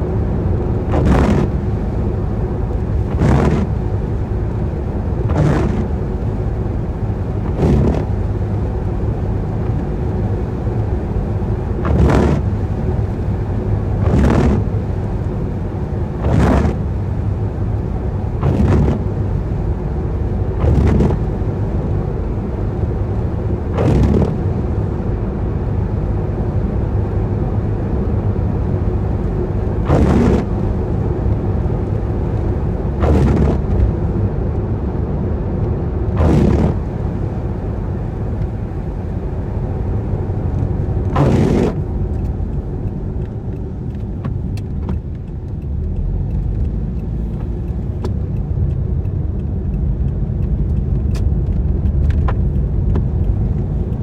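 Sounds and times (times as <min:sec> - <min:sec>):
windscreen wiper swishing: 0:00.0 - 0:50.1, 0:50.7 - 0:54.0
road and tyre rumble: 0:00.0 - 0:54.0.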